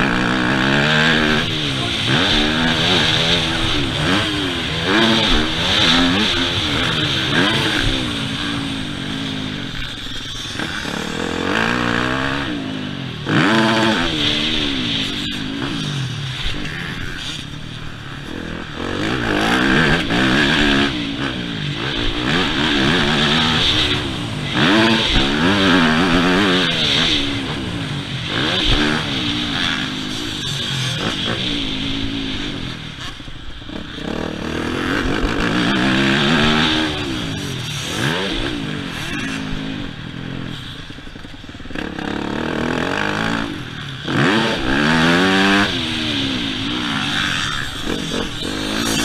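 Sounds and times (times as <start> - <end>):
motocross bike engine revving: 0.0 - 49.0.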